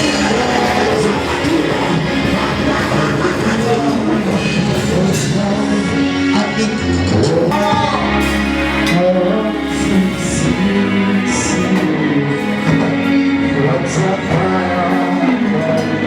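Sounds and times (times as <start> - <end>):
band with bass keyboard and drums: 0.0 - 16.0
gospel singing: 0.0 - 16.0.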